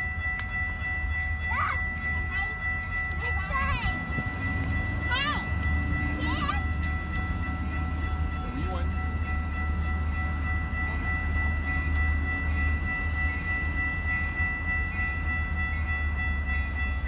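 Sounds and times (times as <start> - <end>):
crossing warning bell ringing: 0.0 - 17.0
low rumble of approaching train: 0.0 - 17.0.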